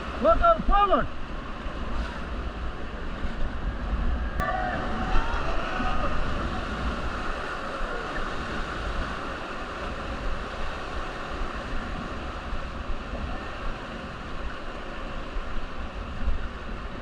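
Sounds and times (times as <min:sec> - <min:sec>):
river water rushing and splashing: 0:00.0 - 0:17.0
wind rumble on microphone: 0:00.0 - 0:17.0.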